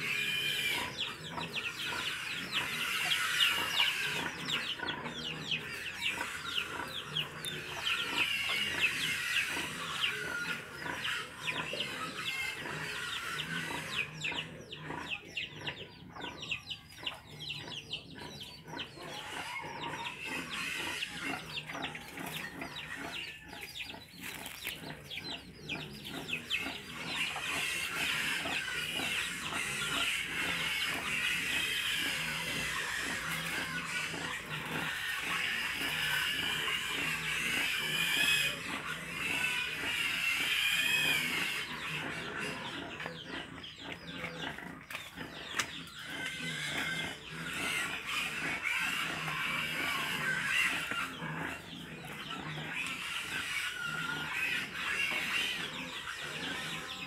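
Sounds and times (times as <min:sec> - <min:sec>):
birds chattering: 0:00.0 - 0:57.0.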